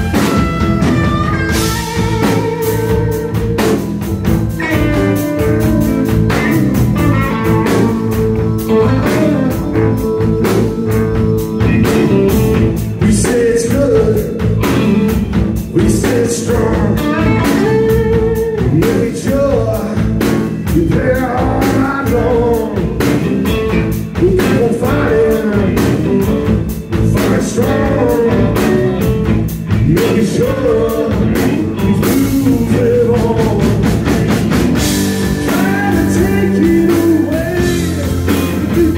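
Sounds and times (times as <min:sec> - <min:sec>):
drum kit beat: 0:00.0 - 0:38.9
electric bass: 0:00.0 - 0:38.9
electric guitars: 0:00.0 - 0:38.9.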